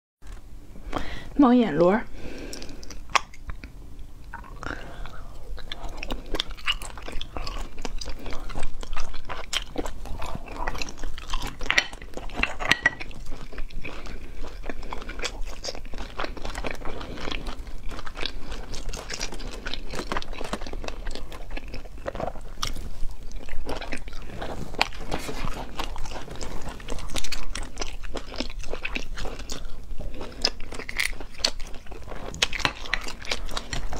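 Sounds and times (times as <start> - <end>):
wet chewing and sucking: 2.2 - 33.9.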